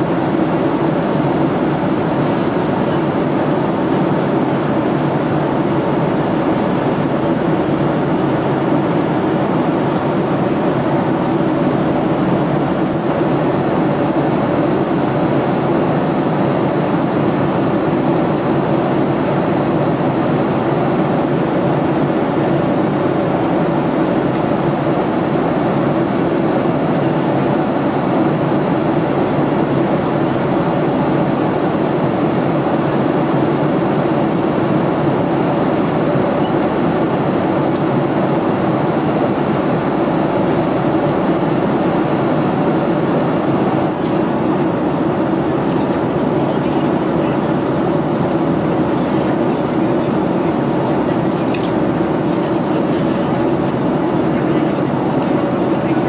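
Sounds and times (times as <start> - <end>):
airplane cabin airflow and engine rush: 0.0 - 56.0
steady low hum: 0.0 - 56.0.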